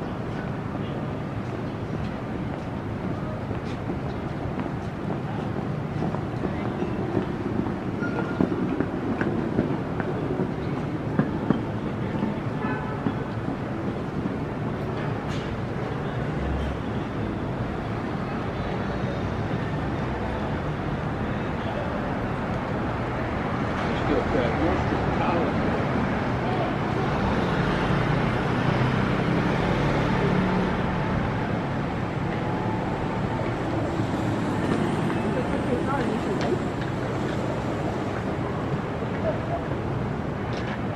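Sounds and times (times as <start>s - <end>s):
busy city rumble: 0.0s - 40.9s.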